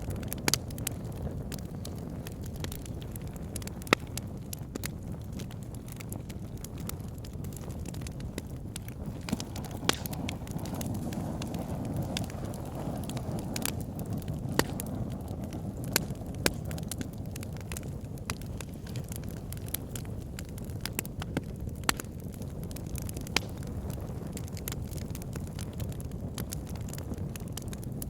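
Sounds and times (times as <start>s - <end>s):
low roar of flames: 0.0s - 28.0s
wood fire crackling: 0.0s - 28.0s.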